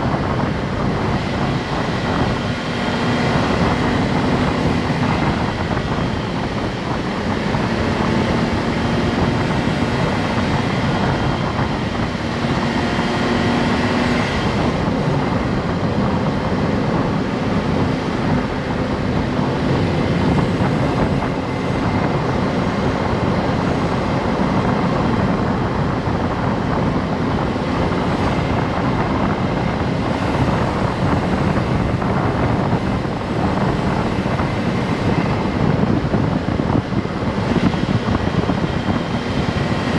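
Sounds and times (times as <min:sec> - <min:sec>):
car engine running: 0:00.0 - 0:39.9
road and wind noise: 0:00.0 - 0:39.9.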